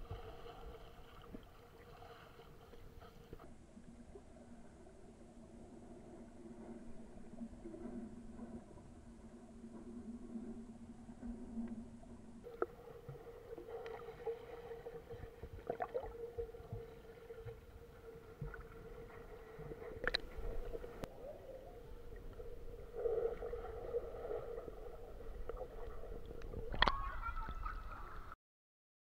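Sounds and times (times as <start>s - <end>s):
low water rumble: 0.0s - 28.4s
steady underwater hum: 0.0s - 28.4s.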